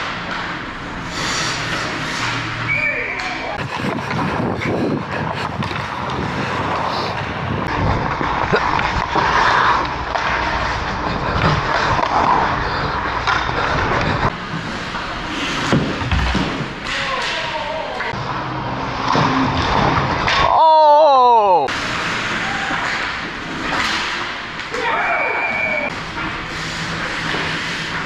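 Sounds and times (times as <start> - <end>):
skate blades scraping on ice: 0.0 - 17.0, 21.7 - 28.0
hockey sticks and puck clacking: 0.0 - 20.6, 21.7 - 28.0.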